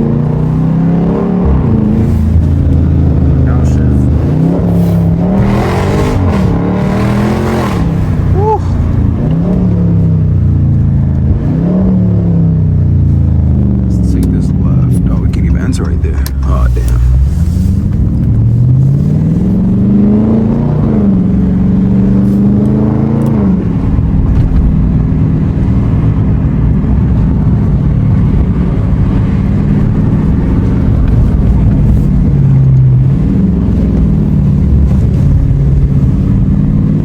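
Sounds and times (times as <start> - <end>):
car engine accelerating: 0.0 - 37.0
low exhaust drone: 0.0 - 37.0.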